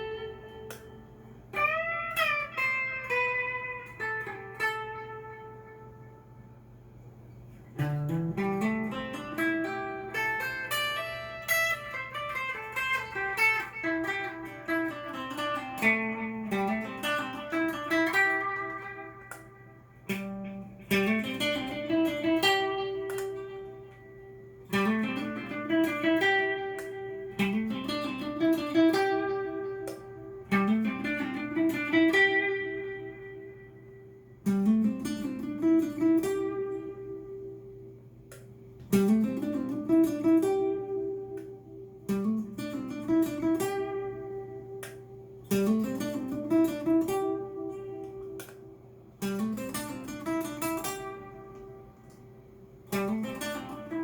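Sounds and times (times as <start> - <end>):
electric guitar single-note melody: 0.0 - 6.8, 7.4 - 54.0
low amp hum: 0.0 - 54.0.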